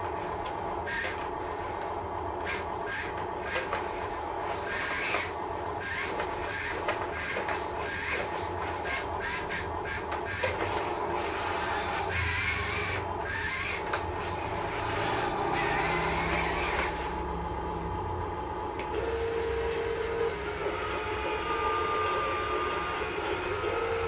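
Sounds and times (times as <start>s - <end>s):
steady low hum: 0.0s - 24.0s
toy truck motor whining: 0.0s - 24.0s.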